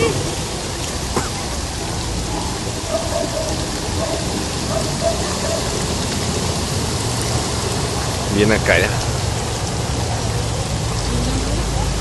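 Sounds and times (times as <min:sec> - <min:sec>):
floodwater washing through street: 0:00.0 - 0:12.0
rain: 0:00.0 - 0:12.0.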